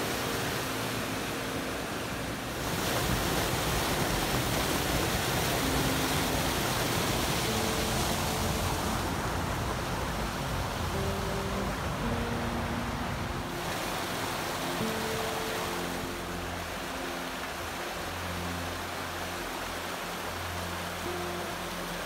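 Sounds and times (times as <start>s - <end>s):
creek rushing over waterfalls: 0.0s - 22.0s.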